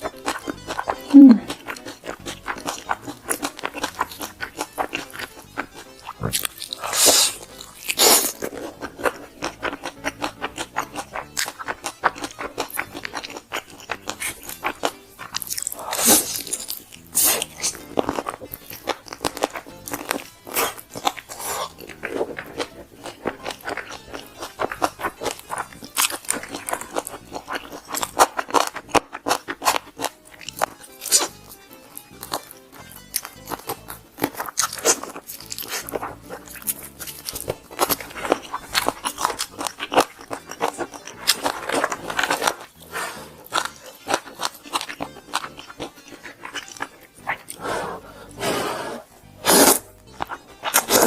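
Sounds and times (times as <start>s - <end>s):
background music: 0.0s - 51.0s
crunchy chewing: 0.0s - 51.0s.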